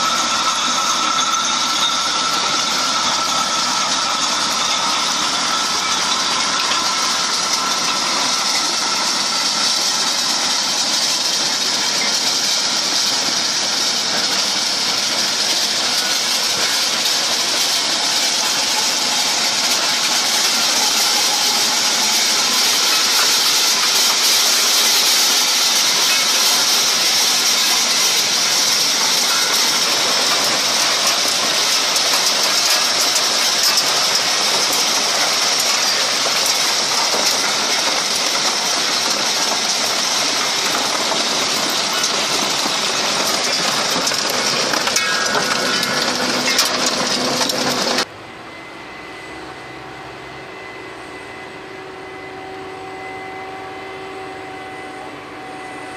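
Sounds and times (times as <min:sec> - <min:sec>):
chain elevator: 0:00.0 - 0:48.1
harvester churning soil and stones: 0:00.0 - 0:48.1
tractor engine running: 0:00.0 - 0:48.1.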